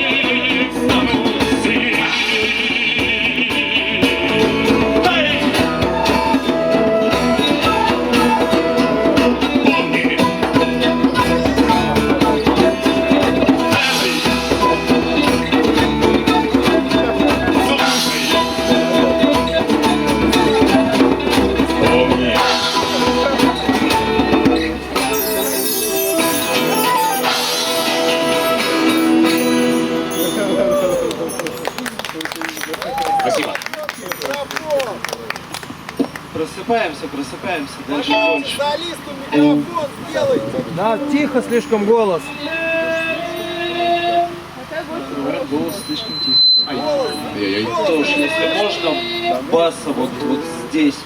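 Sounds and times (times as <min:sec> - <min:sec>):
live folk band playing: 0:00.0 - 0:51.0.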